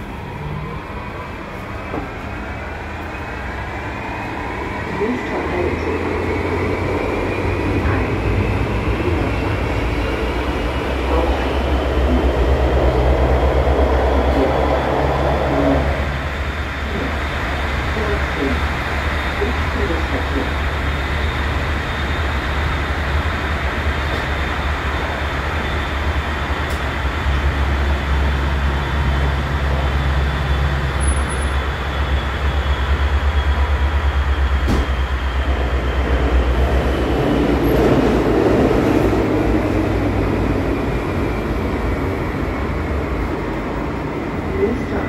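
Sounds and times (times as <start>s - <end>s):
tram wheels rumbling on track: 0.0s - 45.0s.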